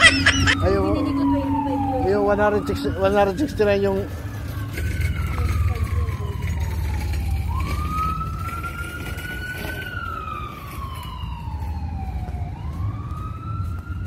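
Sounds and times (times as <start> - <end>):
emergency siren wailing: 0.0 - 14.0.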